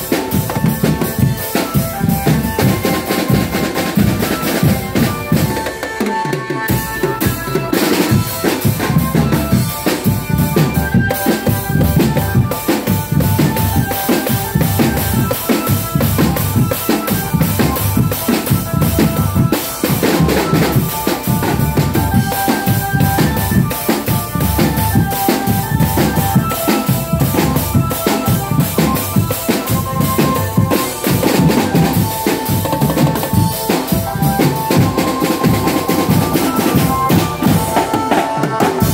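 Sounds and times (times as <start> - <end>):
marching snare and bass drums: 0.0 - 38.9
melody of short high notes: 0.0 - 38.9.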